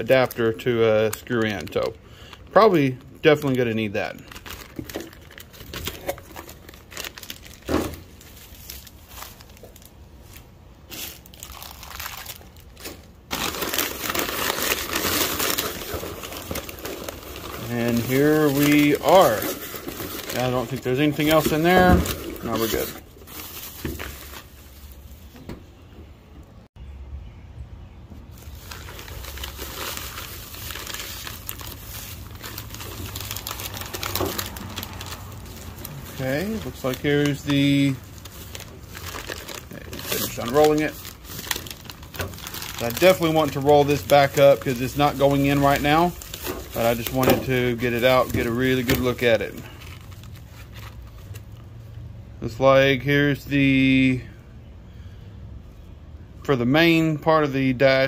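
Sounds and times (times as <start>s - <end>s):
packing paper rustling and crumpling: 0.0s - 25.4s, 28.3s - 51.8s
plastic bag crinkling: 0.0s - 25.4s, 28.3s - 51.6s.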